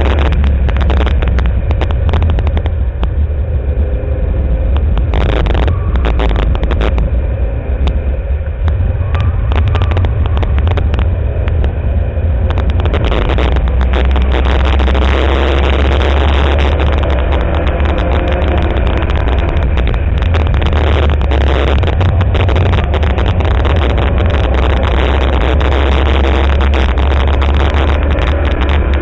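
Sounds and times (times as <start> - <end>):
car engine running hard: 0.0 - 29.0
wind and road noise: 0.0 - 29.0.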